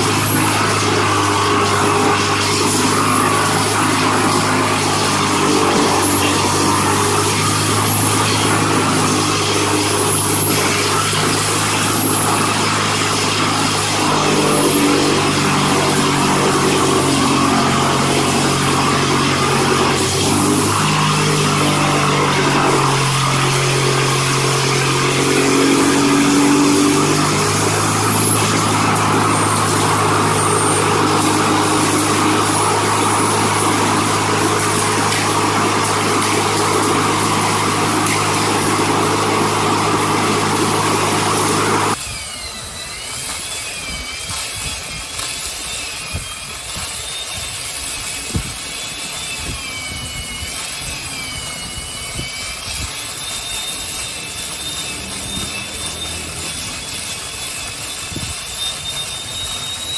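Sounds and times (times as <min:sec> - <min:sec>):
heavy machine engine running: 0:00.0 - 0:59.9
wavering high whine: 0:00.0 - 0:59.9.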